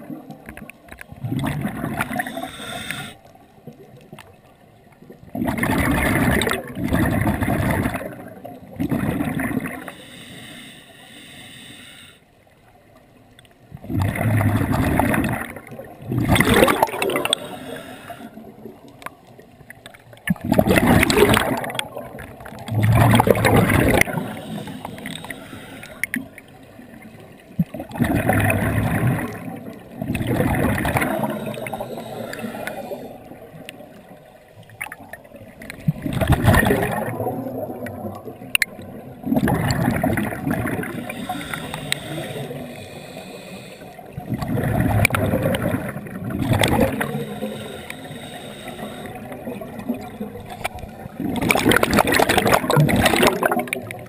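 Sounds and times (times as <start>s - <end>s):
underwater exhaled bubbles gurgling: 0.0s - 10.1s, 12.6s - 54.0s.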